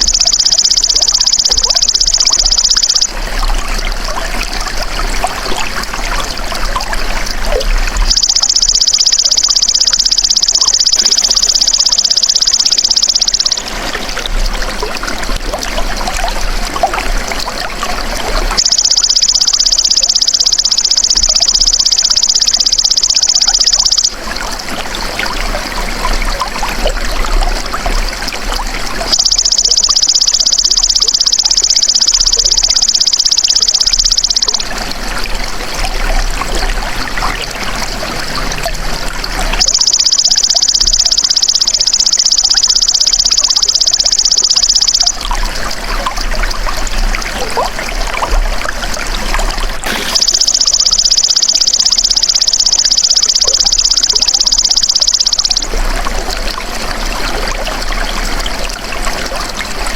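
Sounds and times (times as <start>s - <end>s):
trickling water: 0.0s - 59.9s.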